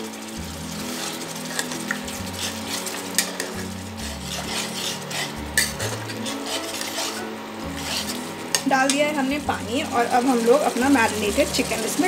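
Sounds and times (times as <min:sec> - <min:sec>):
gravy sizzling: 0:00.0 - 0:12.0
metal spatula scraping a pan: 0:00.0 - 0:12.0.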